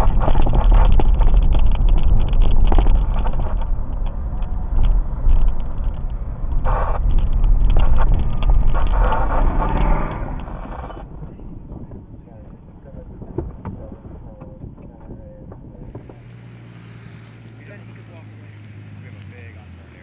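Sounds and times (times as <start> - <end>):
gravel crunching under tyres: 0.0 - 14.1, 15.0 - 20.0
vehicle engine rumble: 0.0 - 20.0.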